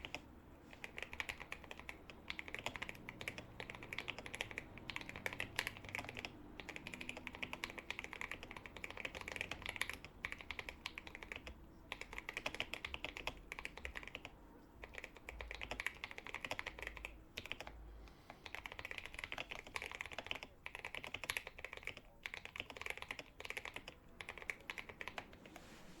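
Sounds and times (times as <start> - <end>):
mechanical keyboard typing: 0.0 - 17.8, 18.4 - 25.5.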